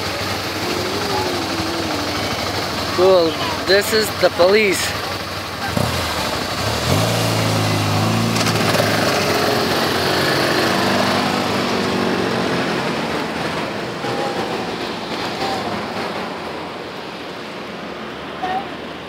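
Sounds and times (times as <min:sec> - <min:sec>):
motorcycle engines accelerating: 0:00.0 - 0:18.2.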